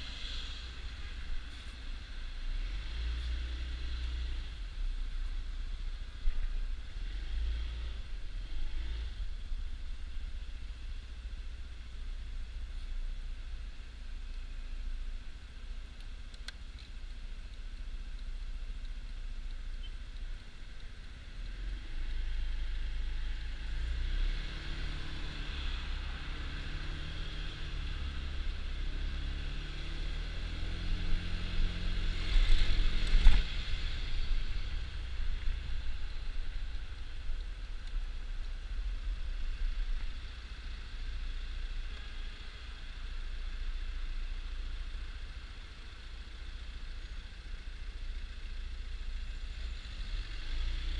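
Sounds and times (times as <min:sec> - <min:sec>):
surrounding traffic: 0:00.0 - 0:50.9.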